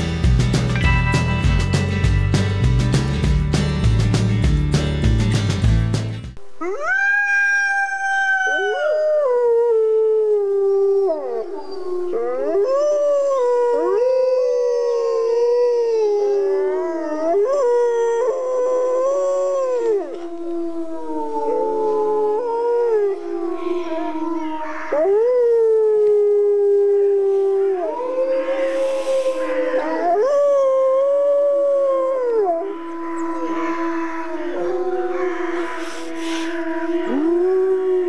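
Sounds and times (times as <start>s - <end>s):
wolves howling: 6.6s - 38.0s.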